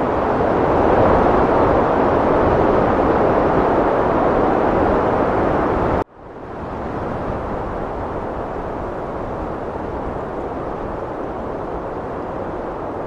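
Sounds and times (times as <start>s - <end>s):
heavy wind rushing: 0.0s - 13.0s.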